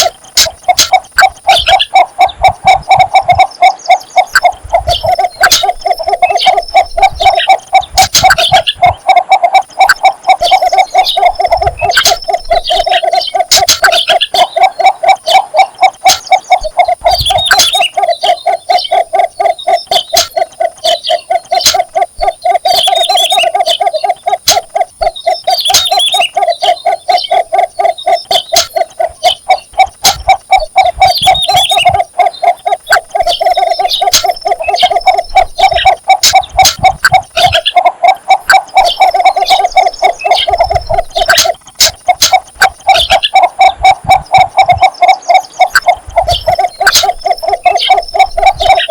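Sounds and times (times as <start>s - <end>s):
bird calling repeated low notes: 0.0s - 48.9s.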